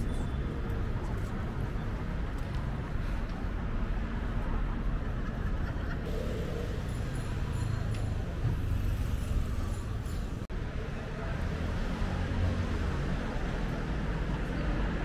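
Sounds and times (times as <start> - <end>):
rumble of road traffic: 0.0 - 15.0.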